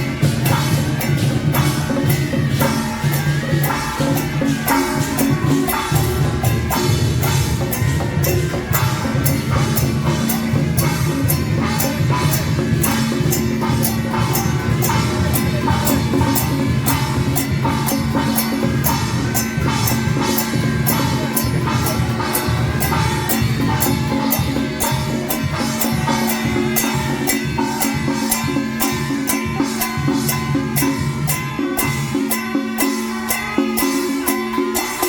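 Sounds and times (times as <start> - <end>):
procession drums and percussion: 0.0 - 35.0.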